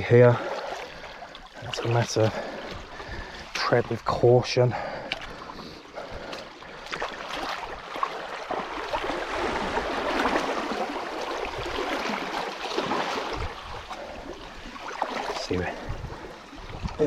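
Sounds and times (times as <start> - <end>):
water splashing around wading feet: 0.0 - 17.0.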